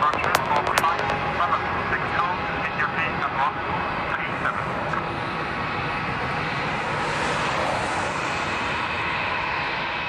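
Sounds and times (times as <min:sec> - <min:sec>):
jet engines rushing with whine: 0:00.0 - 0:10.0.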